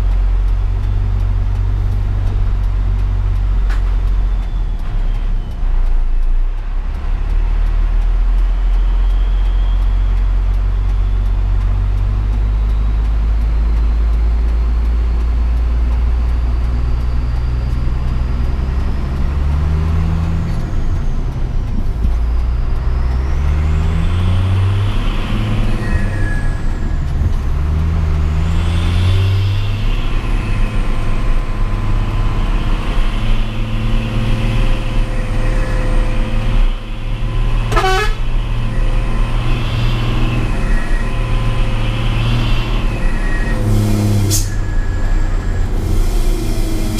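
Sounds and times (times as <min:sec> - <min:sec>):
truck diesel engine accelerating: 0:00.0 - 0:46.9.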